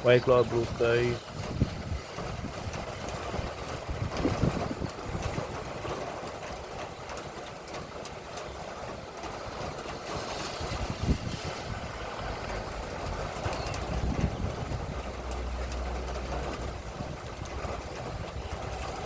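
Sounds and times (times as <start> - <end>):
light rain falling: 0.0 - 19.0
low uneven rumble: 0.0 - 19.0.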